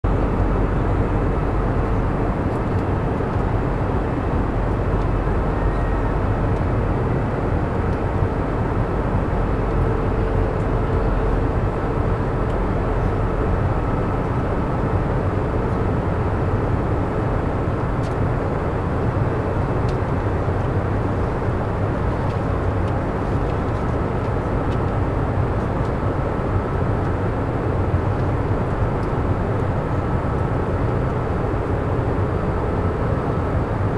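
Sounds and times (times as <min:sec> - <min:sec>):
aircraft cabin engine rumble: 0:00.0 - 0:33.9
faint constant hum: 0:00.0 - 0:33.9.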